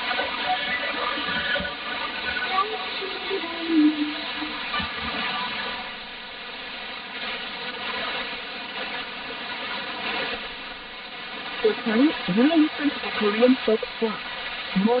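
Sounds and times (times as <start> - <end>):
faint steady tones: 0.0 - 15.0
radio static hiss: 0.0 - 15.0.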